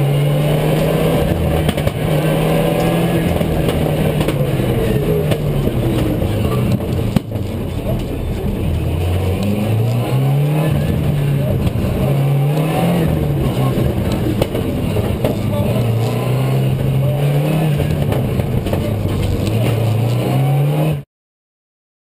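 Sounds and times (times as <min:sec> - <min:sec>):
rally car engine from inside cabin: 0:00.0 - 0:21.0.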